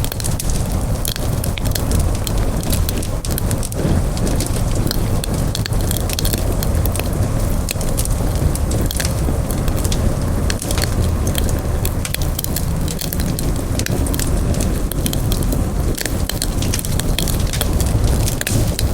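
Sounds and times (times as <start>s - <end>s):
campfire crackling and popping: 0.0s - 18.9s
low rumble of flames: 0.0s - 18.9s.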